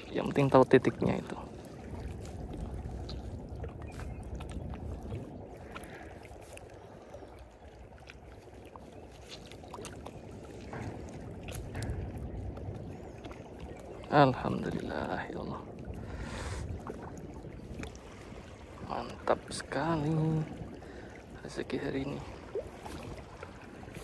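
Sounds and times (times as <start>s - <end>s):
waves lapping against rocks: 0.0s - 24.0s.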